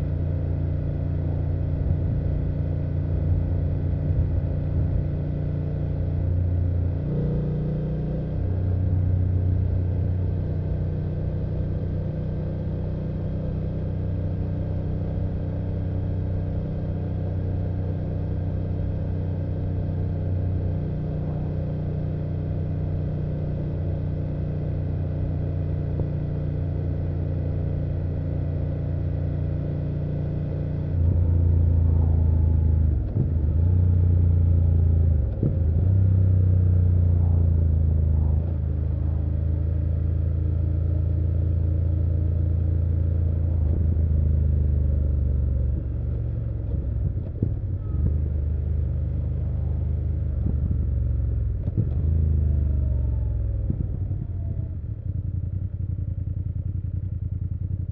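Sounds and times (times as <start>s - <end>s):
motorcycle engine and exhaust cruising: 0.0s - 57.9s.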